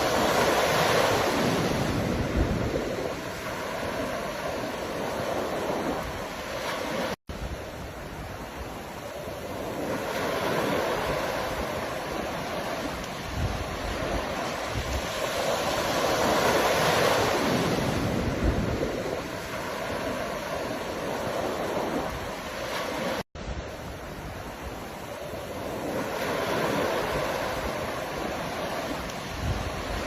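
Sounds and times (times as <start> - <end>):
ocean waves washing in: 0.0 - 30.0.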